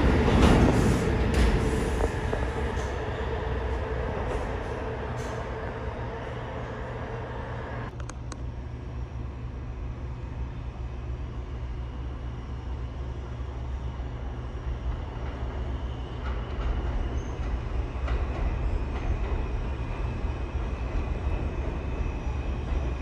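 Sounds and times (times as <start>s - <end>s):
subway train rumbling: 0.0s - 23.0s.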